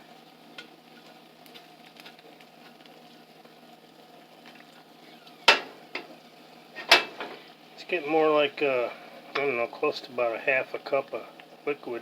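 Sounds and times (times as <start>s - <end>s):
fat sizzling in a pan: 0.0s - 12.0s.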